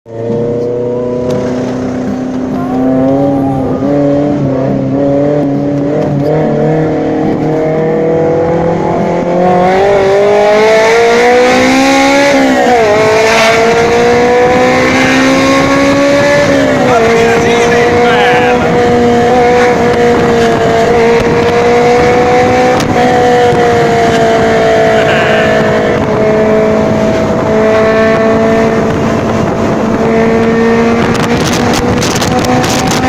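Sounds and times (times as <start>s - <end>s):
car engine accelerating hard: 0.1s - 33.0s.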